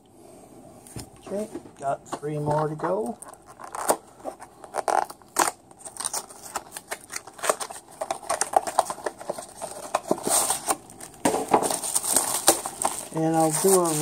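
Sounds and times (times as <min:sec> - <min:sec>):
packaging rustling and crinkling: 0:02.2 - 0:14.0.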